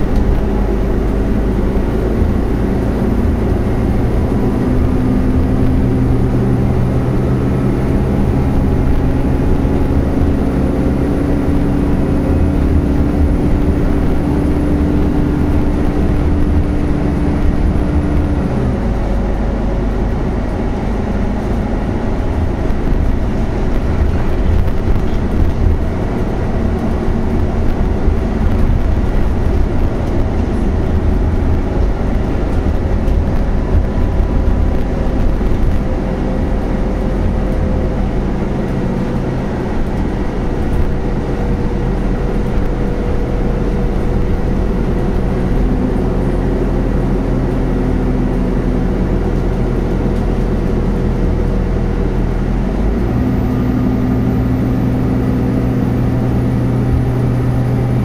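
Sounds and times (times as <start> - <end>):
bus engine rumbling: 0.0 - 58.0.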